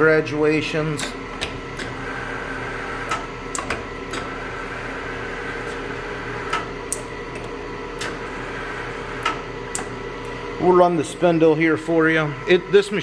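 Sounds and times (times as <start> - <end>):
lathe machine hum: 0.0 - 13.0.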